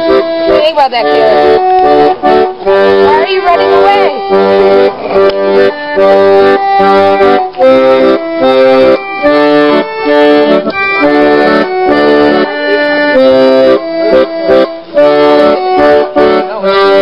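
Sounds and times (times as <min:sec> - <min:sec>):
accordion playing: 0:00.0 - 0:17.0.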